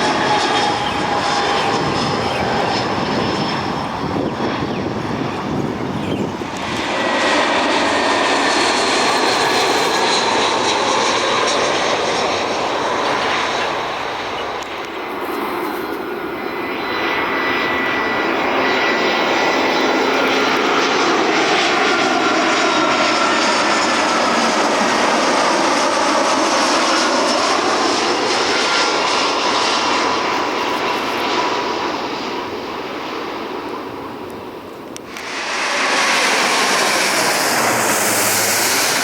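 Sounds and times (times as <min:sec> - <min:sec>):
airliner engine noise: 0:00.0 - 0:39.0.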